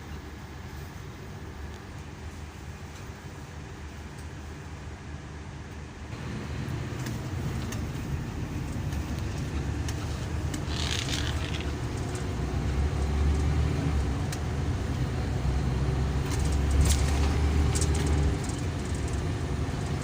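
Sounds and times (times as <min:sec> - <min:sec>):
coach diesel engine: 0:00.0 - 0:20.0
road noise: 0:00.0 - 0:20.0.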